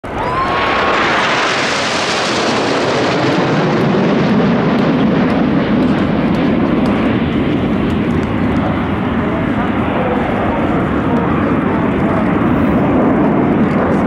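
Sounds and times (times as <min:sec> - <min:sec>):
jets flying past roaring: 0:00.0 - 0:14.0.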